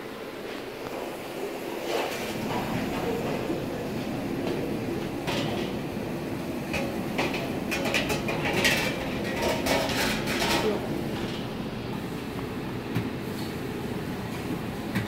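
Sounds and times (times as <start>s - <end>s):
steady rumbling background noise: 0.0s - 15.0s.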